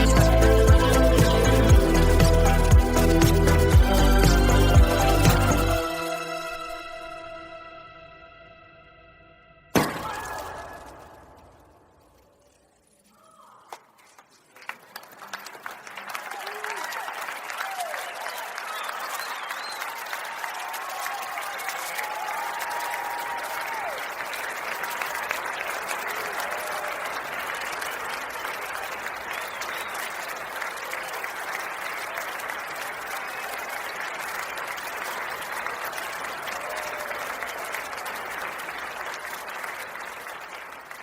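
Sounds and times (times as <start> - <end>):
crowd applauding and cheering: 0.0 - 7.6, 9.8 - 12.3, 13.3 - 41.0.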